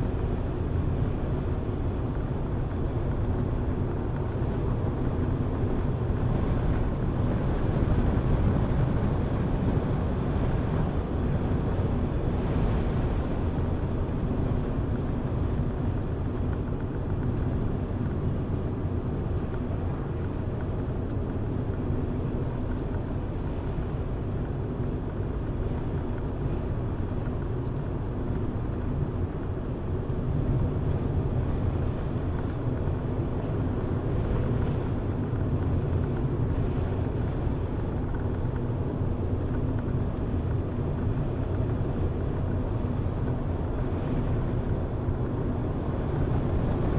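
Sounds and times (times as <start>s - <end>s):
car engine and tyre road noise: 0.0s - 46.9s.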